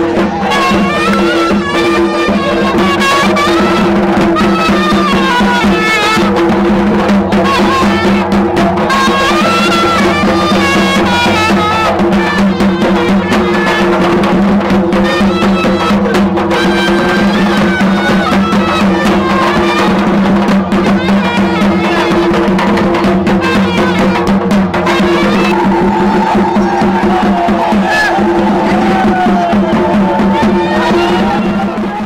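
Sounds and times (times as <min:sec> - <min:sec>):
drumming: 0:00.0 - 0:32.0
wind instrument melody: 0:00.0 - 0:32.0.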